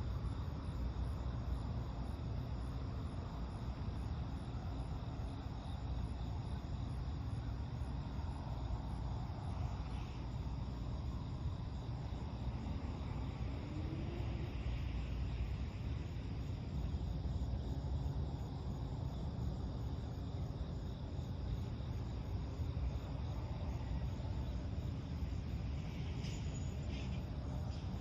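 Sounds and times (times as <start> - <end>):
distant road traffic rumble: 0.0 - 28.0
faint cricket chirps: 0.0 - 28.0.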